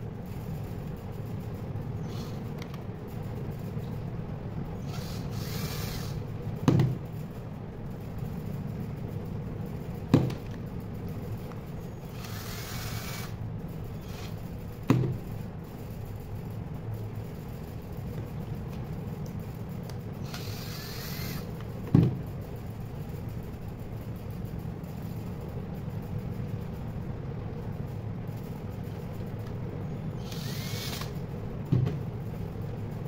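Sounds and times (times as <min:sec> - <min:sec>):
low rumble and hum: 0:00.0 - 0:33.0.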